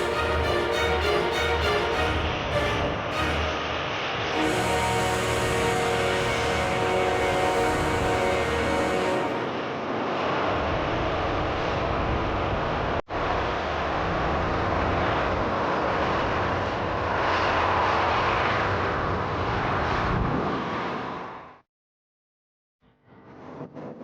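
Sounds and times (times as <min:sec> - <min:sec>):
jet engine noise: 0:00.0 - 0:21.6.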